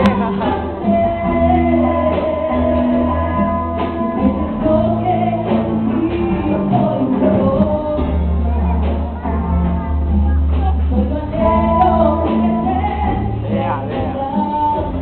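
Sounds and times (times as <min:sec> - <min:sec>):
woman singing into a microphone: 0:00.0 - 0:09.4, 0:10.8 - 0:15.0
band with drums and congas: 0:00.0 - 0:15.0.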